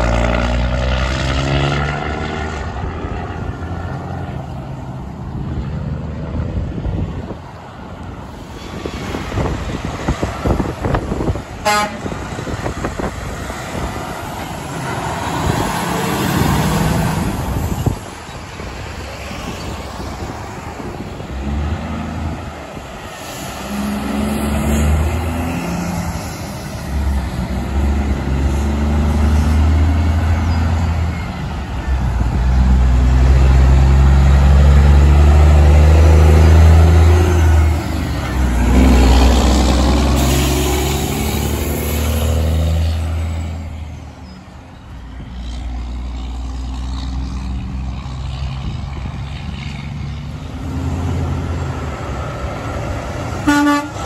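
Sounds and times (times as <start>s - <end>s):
passing traffic rush: 0.0s - 54.0s
semi-truck engine droning: 0.0s - 54.0s.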